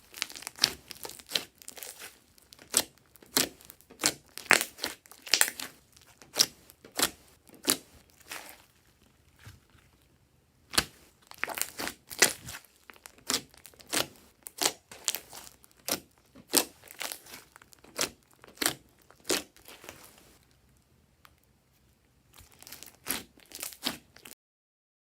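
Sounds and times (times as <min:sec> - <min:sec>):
slime crackling and popping: 0:00.0 - 0:09.4, 0:10.7 - 0:20.6, 0:22.3 - 0:24.3.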